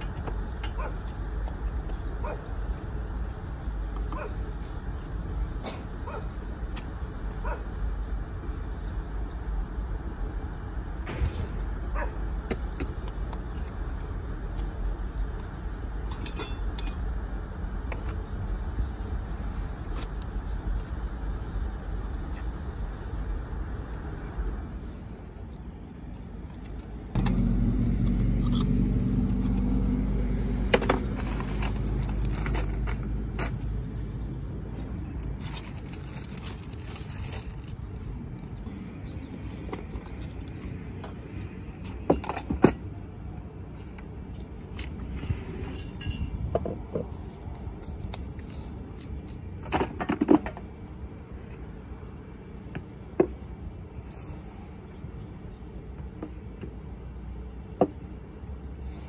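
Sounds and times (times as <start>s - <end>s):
vehicle engine rumble: 0.0s - 59.0s.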